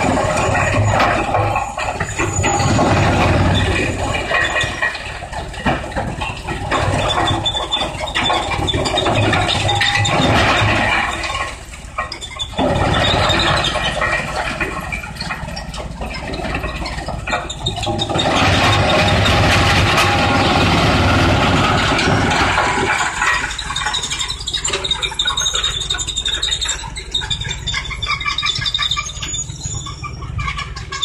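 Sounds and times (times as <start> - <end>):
wood crusher running: 0.0 - 26.6
clatter and knocks: 0.0 - 31.0.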